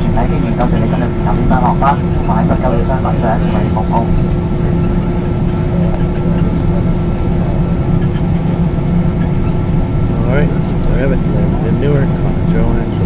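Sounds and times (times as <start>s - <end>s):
aircraft cabin rumble: 0.0s - 13.0s
engine and air-system hum: 0.0s - 13.0s.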